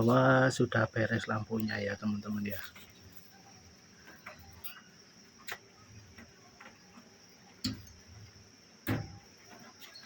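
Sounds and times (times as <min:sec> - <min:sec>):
cricket chirring: 0:00.0 - 0:10.0.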